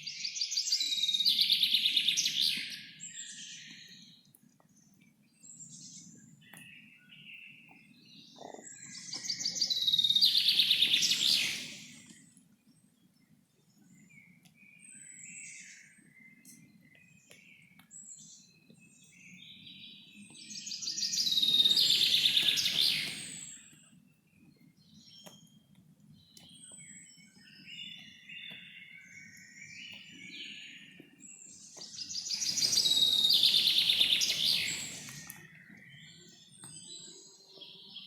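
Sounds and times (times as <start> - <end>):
faint bird chirps: 0.0 - 38.0
songbird trilling song: 0.0 - 38.0.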